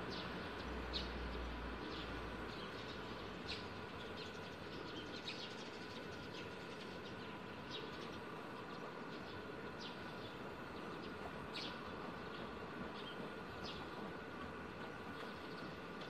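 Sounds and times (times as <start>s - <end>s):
faint continuous tones: 0.0s - 16.0s.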